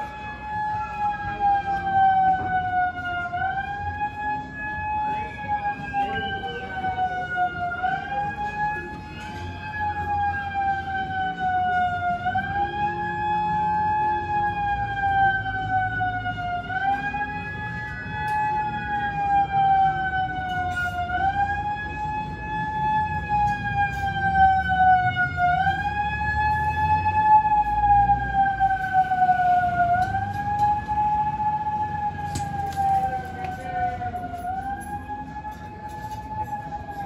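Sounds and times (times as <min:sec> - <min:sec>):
siren wailing: 0:00.0 - 0:37.0.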